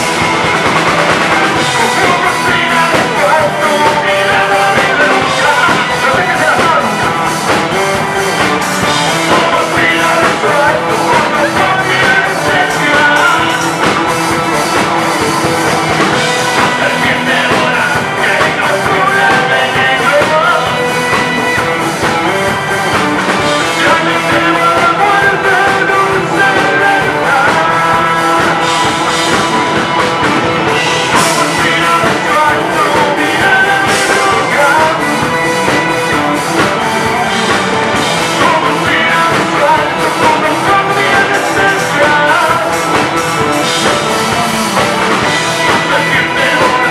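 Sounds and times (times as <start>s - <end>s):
bass guitar: 0.0s - 46.9s
drums: 0.0s - 46.9s
electric guitar: 0.0s - 46.9s
person singing: 0.0s - 46.9s.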